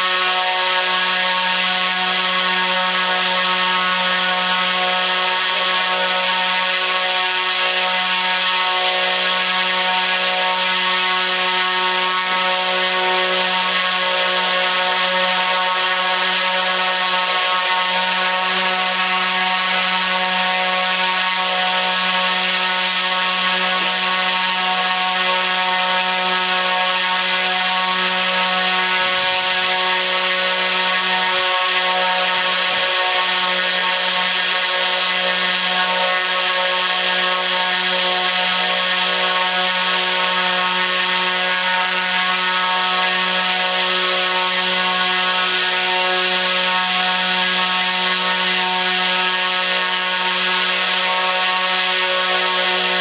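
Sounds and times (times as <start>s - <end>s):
electric motor spinning propeller: 0.0s - 53.0s.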